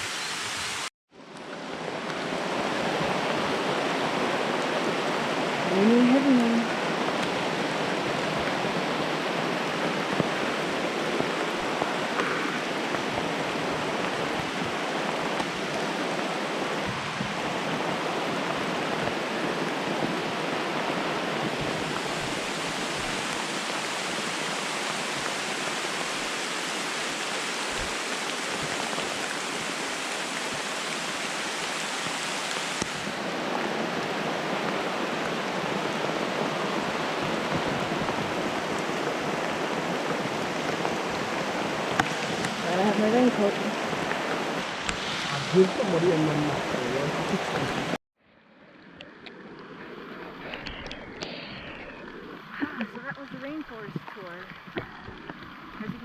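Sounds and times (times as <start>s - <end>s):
heavy rain: 0.0s - 48.0s, 49.0s - 56.0s.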